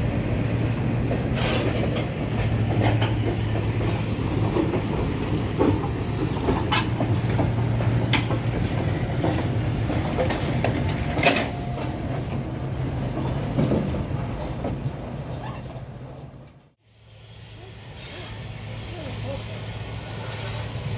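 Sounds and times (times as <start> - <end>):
train rumbling on track: 0.0 - 20.9.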